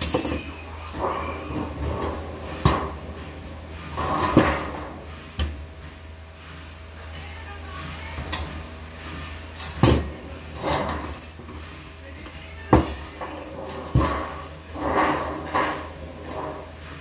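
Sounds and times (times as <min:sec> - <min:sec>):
low hum: 0:00.0 - 0:17.0
sheet metal rattling and scraping: 0:00.0 - 0:17.0.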